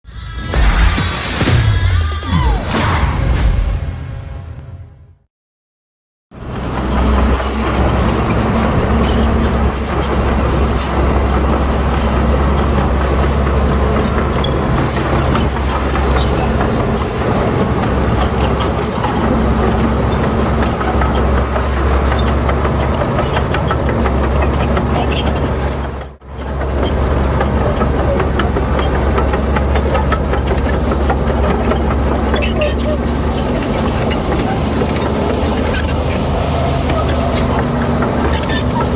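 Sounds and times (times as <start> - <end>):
diesel machinery engine hum: 6.4 - 38.9
small clanks and rattles: 7.7 - 38.9.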